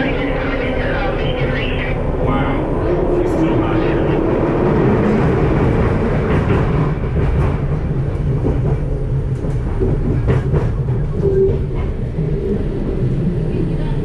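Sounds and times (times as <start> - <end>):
train car rumbling: 0.0 - 14.0.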